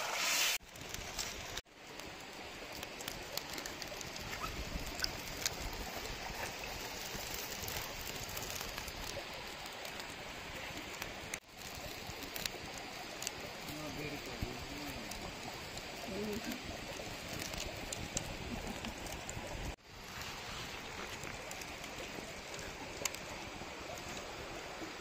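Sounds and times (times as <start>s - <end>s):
steady rushing hiss: 0.0s - 25.0s
wood fire crackling: 0.0s - 25.0s.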